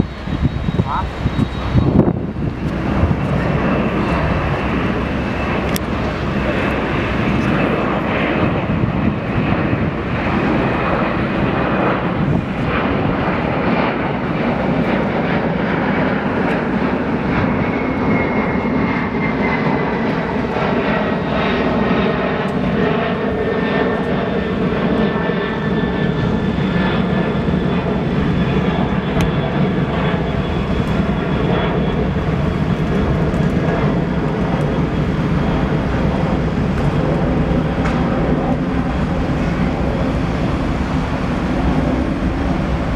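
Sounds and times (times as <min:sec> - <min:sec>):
high jet whine: 0:00.0 - 0:42.9
jet engine noise: 0:00.0 - 0:42.9.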